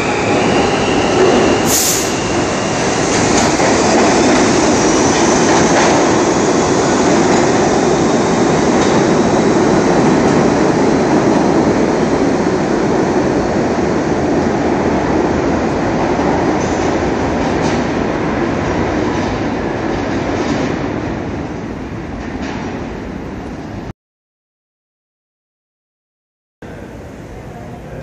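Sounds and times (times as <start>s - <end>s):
subway train pulling away: 0.0s - 23.9s, 26.6s - 28.0s.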